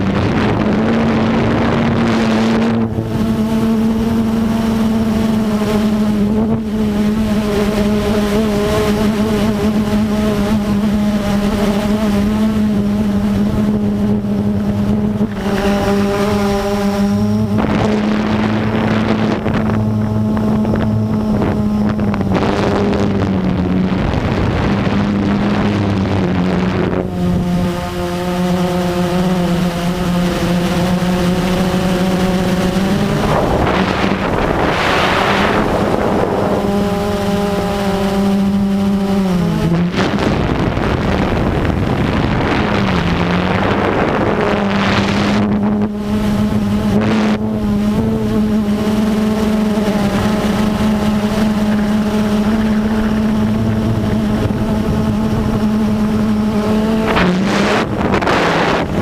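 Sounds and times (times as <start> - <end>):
drone motors humming: 0.0 - 59.0
wind rushing over microphone: 0.0 - 59.0.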